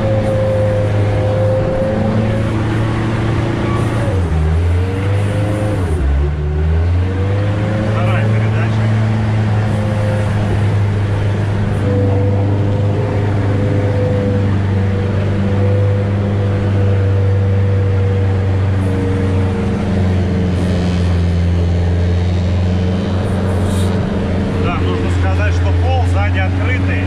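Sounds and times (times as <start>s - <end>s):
vehicle engine drone with whine: 0.0s - 27.0s.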